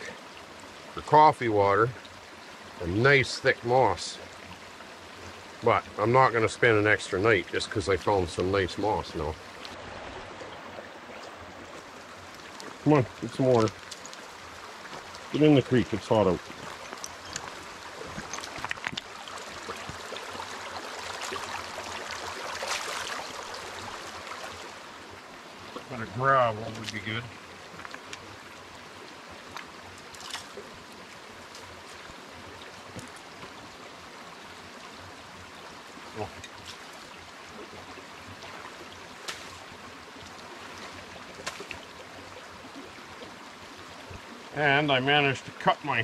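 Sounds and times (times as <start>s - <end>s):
creek water over stones: 0.0s - 46.0s.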